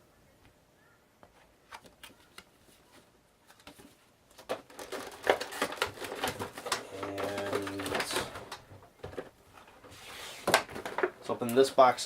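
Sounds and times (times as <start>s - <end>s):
rustling and clicks: 1.2s - 11.7s
cardboard packaging handled: 1.4s - 12.0s.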